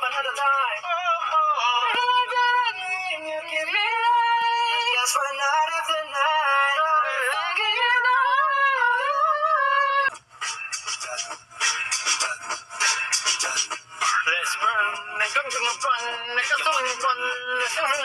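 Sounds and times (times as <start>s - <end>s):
energetic hip-hop music: 0.0s - 8.2s, 10.1s - 18.0s.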